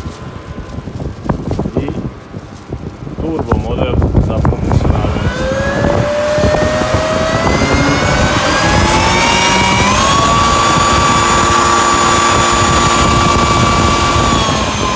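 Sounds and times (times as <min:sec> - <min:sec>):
electric blower fan whine: 0:00.0 - 0:14.9.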